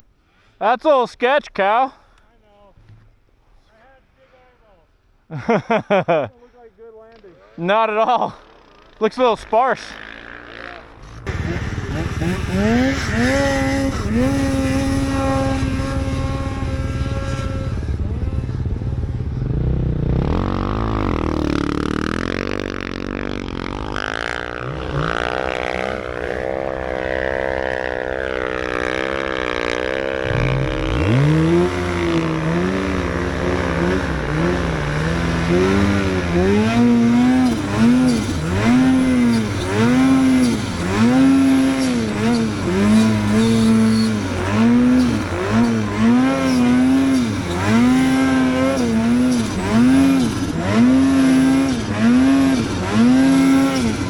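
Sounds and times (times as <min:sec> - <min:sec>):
snowmobile engines revving: 0:05.3 - 0:54.0.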